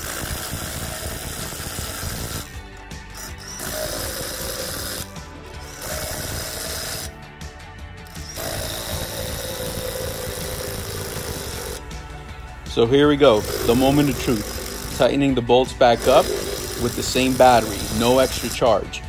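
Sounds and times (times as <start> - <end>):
impact wrench hammering lug nuts: 0.0 - 7.1, 8.1 - 11.9, 13.2 - 18.9.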